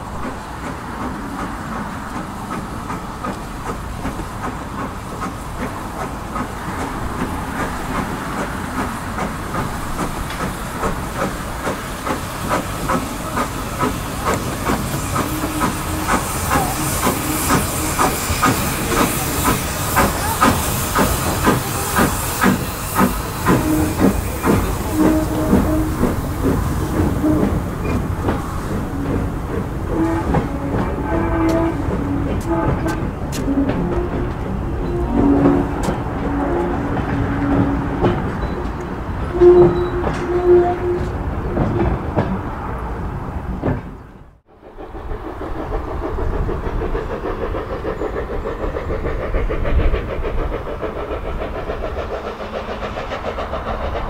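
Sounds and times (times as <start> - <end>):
steam hissing: 0.0 - 41.2, 44.5 - 54.0
steam locomotive chuffing: 0.0 - 54.0.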